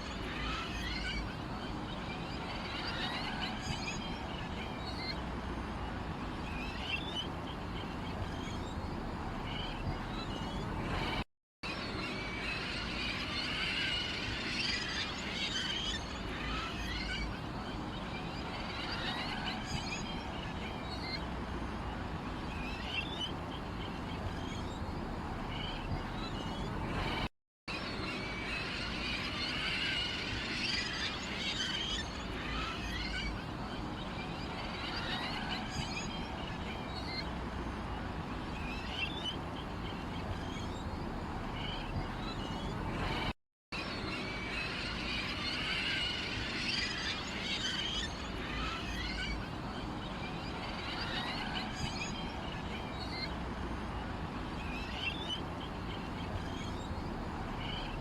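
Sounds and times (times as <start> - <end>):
small birds chirping: 0.0 - 11.2, 11.8 - 43.3, 43.9 - 58.0.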